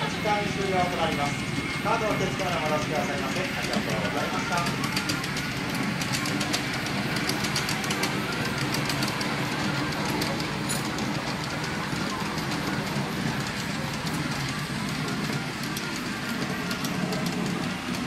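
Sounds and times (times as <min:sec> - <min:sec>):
miniature train rumbling: 0:00.0 - 0:18.0
wheels clicking over rail joints: 0:00.0 - 0:18.0.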